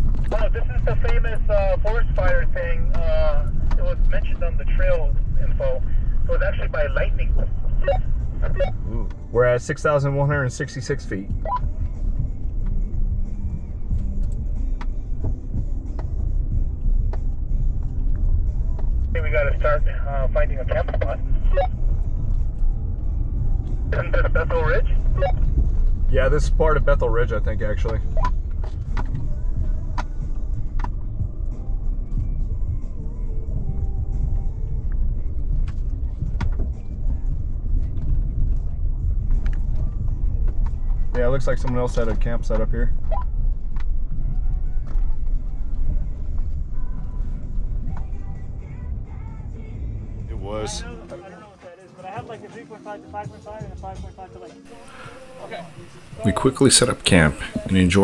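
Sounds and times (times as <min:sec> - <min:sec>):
truck engine and tyre rumble: 0:00.0 - 0:51.5, 0:53.2 - 0:58.0.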